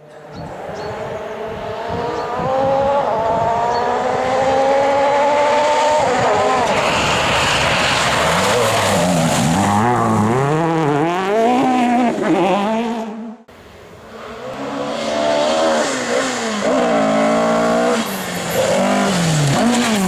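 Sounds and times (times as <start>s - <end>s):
rally car engine revving: 0.2s - 13.5s, 14.1s - 20.0s.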